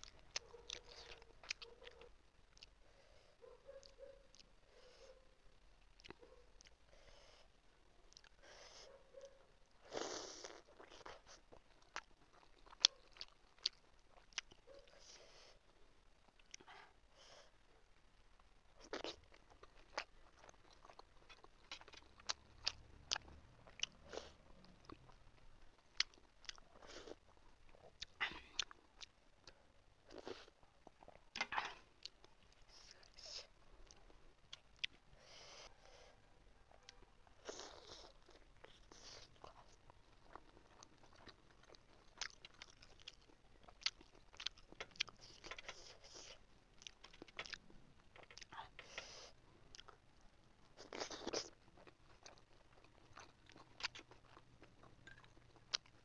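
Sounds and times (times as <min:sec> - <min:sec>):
person chewing: 0:00.0 - 0:02.8, 0:05.8 - 0:06.8, 0:08.1 - 0:08.4, 0:09.8 - 0:15.4, 0:18.8 - 0:36.1, 0:36.7 - 0:56.0.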